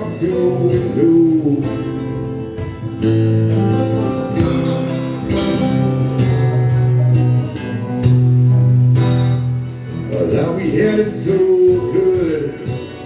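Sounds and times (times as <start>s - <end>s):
bass line: 0.0s - 13.0s
strummed acoustic guitar: 0.0s - 13.0s.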